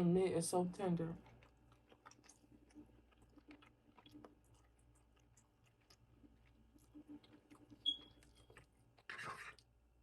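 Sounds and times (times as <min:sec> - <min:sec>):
chewing food: 0:01.0 - 0:10.0.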